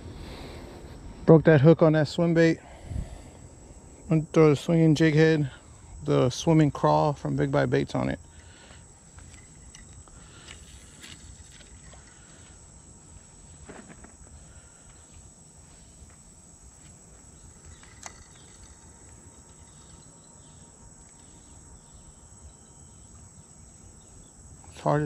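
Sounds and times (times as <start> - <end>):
insects trilling high-pitched: 0.1 - 25.0.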